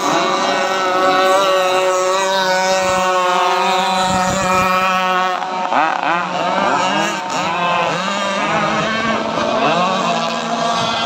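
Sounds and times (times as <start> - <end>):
model boat engines whining: 0.0 - 11.0.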